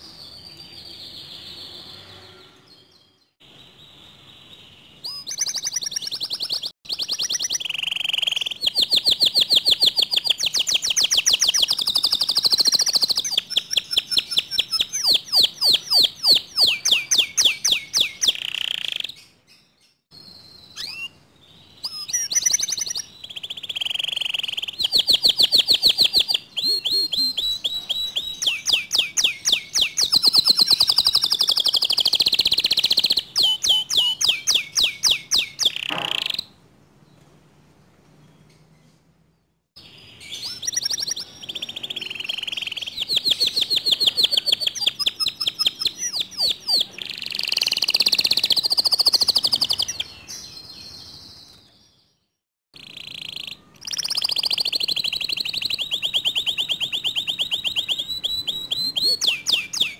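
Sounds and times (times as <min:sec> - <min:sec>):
canary singing trills: 0:00.0 - 0:36.6, 0:39.8 - 0:59.9.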